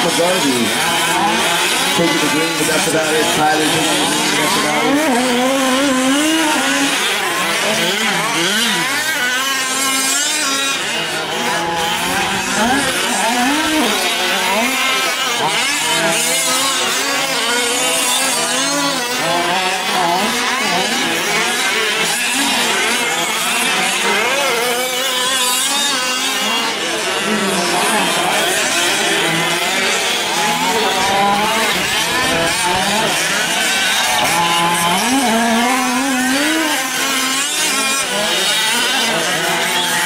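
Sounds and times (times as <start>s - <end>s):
small two-stroke engines revving: 0.0s - 40.0s.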